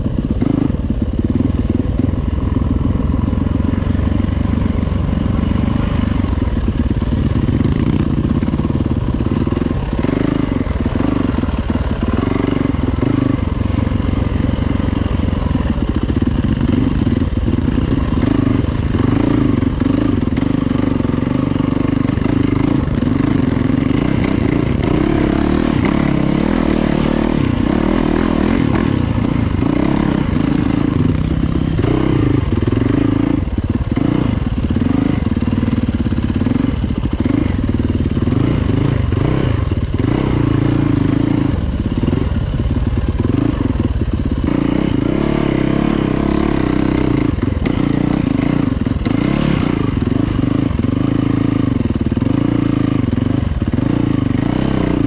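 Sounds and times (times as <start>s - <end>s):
dirt bike engine at low revs: 0.0s - 55.0s.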